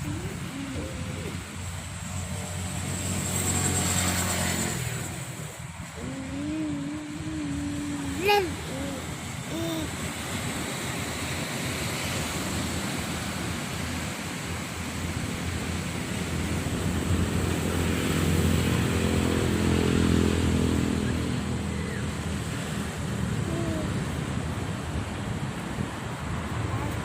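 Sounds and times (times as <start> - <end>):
wind on microphone: 0.0 - 20.1, 20.8 - 27.0
engine droning hum: 0.0 - 27.0.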